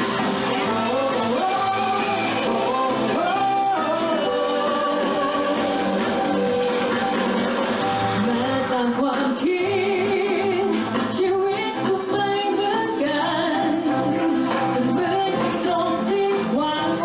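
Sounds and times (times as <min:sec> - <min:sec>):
woman singing pop song: 0:00.0 - 0:07.2, 0:07.8 - 0:17.0
instrumental backing: 0:00.0 - 0:17.0.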